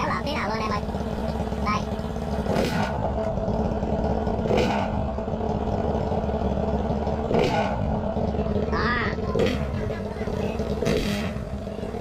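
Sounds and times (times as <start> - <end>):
motorcycle engine humming: 0.0 - 12.0.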